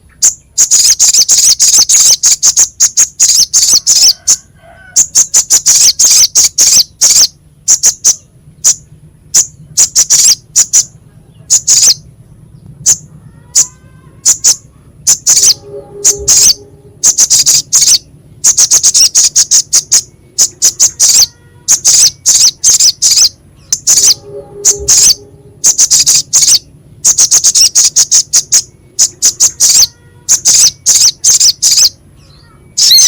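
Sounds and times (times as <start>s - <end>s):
bird singing harsh high notes: 5.0s - 12.1s, 12.9s - 33.0s.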